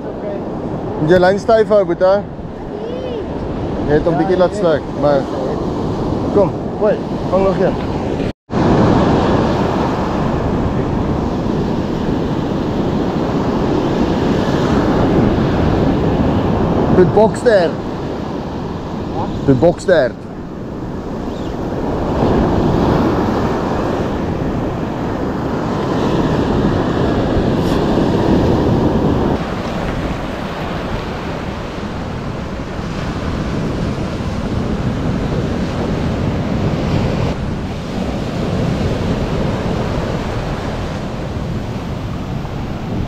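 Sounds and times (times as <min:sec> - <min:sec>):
ocean surf breaking on beach: 0:00.0 - 0:43.0.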